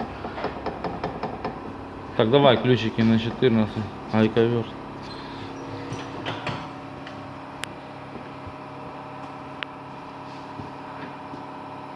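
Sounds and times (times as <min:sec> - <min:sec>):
steady mechanical hum: 0:00.0 - 0:11.9.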